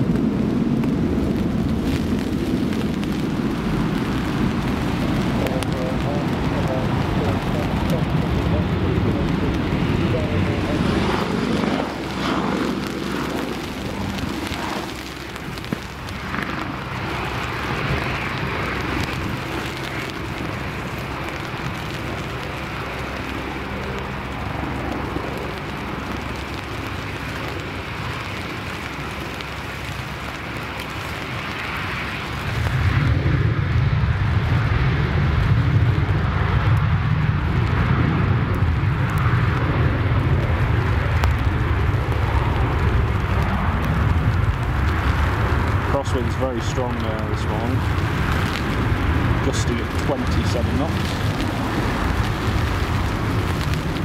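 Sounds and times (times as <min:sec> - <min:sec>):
gusty storm wind buffeting microphone: 0:00.0 - 0:54.0.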